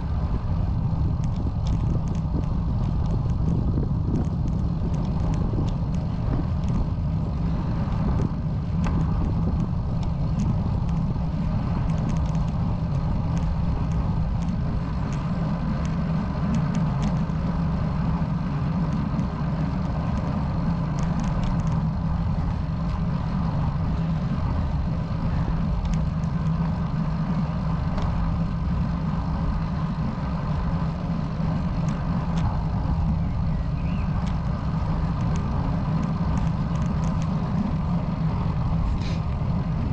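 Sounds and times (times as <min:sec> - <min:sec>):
tyre noise on asphalt: 0:00.0 - 0:39.9
wind rushing on microphone: 0:00.0 - 0:39.9.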